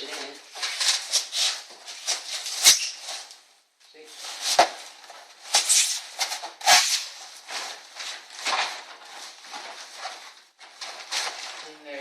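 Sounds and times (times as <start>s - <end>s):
foil foam crinkling and scraping: 0.0s - 3.4s, 4.1s - 12.0s.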